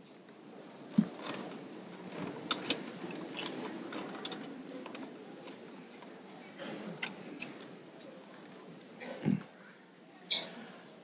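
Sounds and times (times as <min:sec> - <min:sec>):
people rustling and shuffling: 0:00.0 - 0:11.0.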